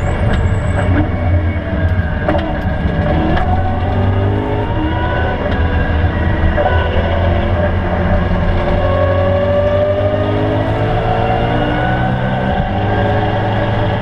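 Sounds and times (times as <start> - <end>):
steady low drone: 0.0 - 14.0
car engine revving under load: 0.2 - 14.0.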